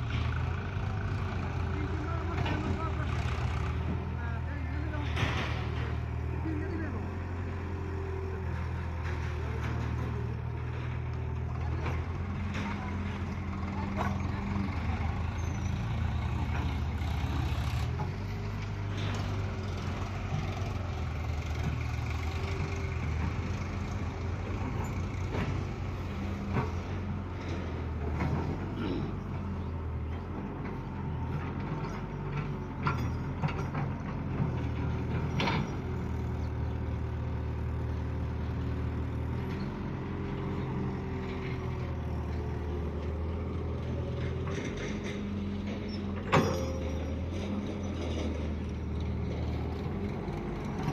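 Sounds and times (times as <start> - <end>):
heavy diesel engine running: 0.0 - 50.9
sharp clanks and knocks: 4.8 - 6.3, 7.1 - 17.0, 17.7 - 20.8, 21.6 - 37.0, 38.4 - 50.9.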